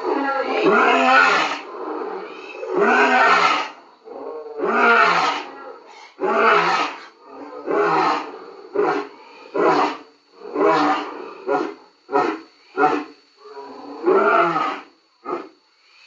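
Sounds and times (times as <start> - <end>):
lion roaring: 0.0 - 15.5.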